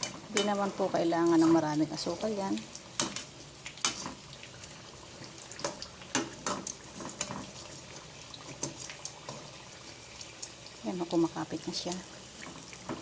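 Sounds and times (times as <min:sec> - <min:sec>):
food sizzling in oil: 0:00.0 - 0:13.0
oil popping and crackling: 0:00.0 - 0:13.0.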